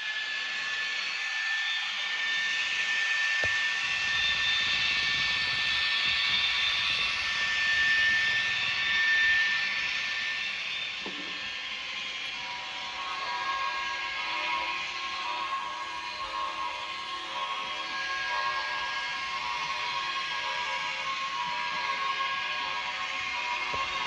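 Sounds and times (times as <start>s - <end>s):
model diesel locomotive sound: 0.0s - 24.0s.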